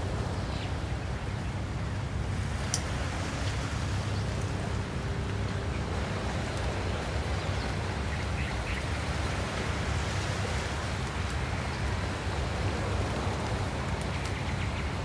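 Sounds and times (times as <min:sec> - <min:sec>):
wind: 0:00.0 - 0:15.0
surf on rocky shore: 0:01.5 - 0:15.0.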